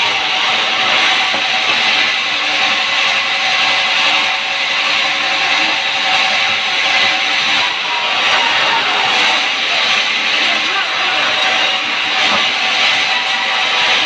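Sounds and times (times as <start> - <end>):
saw cutting through timber: 0.0 - 14.0.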